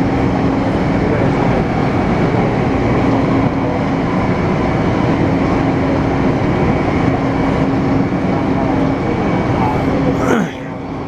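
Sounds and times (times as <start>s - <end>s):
inverter hum: 0.0s - 11.0s
train rail rumble: 0.0s - 11.0s.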